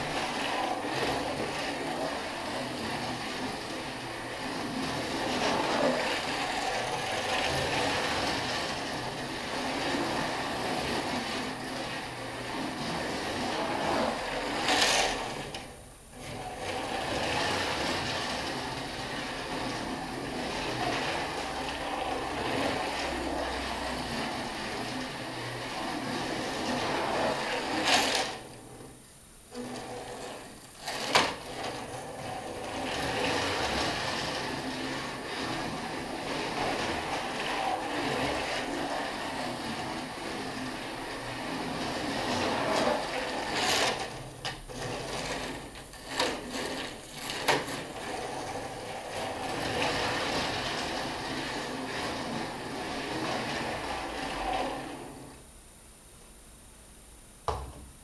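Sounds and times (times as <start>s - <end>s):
model racing car whirring: 0.0s - 55.5s.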